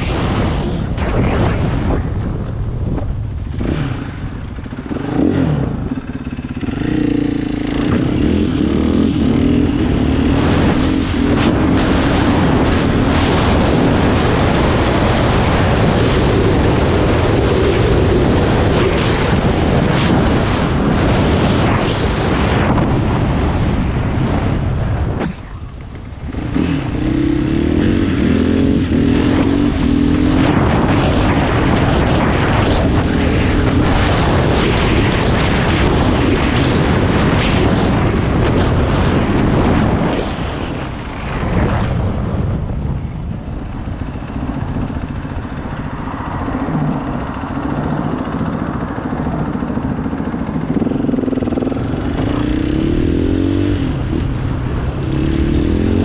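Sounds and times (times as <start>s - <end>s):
dirt bike engine running: 0.0s - 42.1s, 42.7s - 56.0s
wind noise on microphone: 0.0s - 56.0s.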